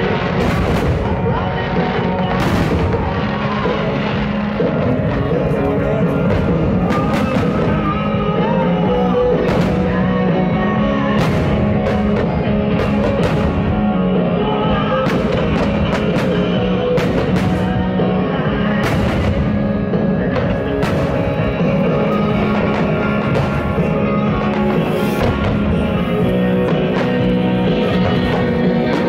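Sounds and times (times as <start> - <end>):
loud rock music: 0.0 - 29.0.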